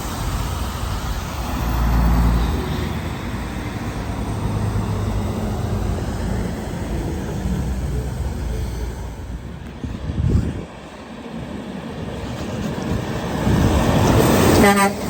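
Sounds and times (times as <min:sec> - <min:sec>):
road traffic engine rumble: 0:00.0 - 0:15.0.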